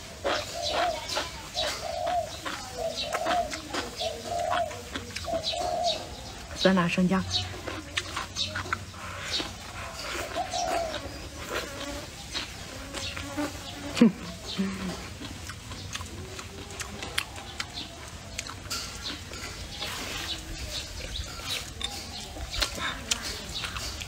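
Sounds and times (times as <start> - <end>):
person chewing with wet smacks: 0.0 - 6.6, 7.3 - 24.0.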